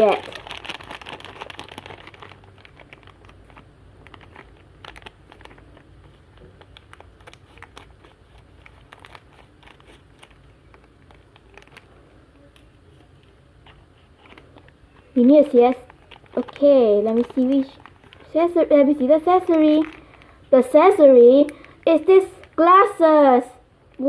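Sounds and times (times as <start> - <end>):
plastic bag crinkling: 0.0 - 13.0, 13.6 - 23.0.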